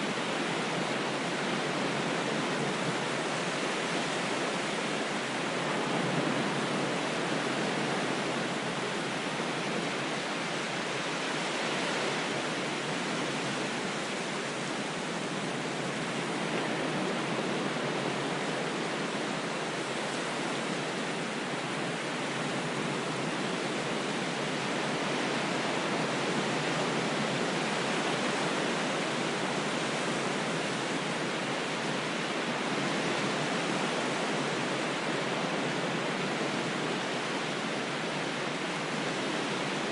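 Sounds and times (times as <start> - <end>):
rushing water noise: 0.0 - 39.9.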